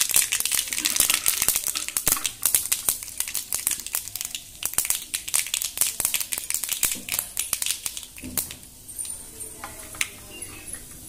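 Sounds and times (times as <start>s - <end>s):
seeds popping in hot oil: 0.0s - 11.0s.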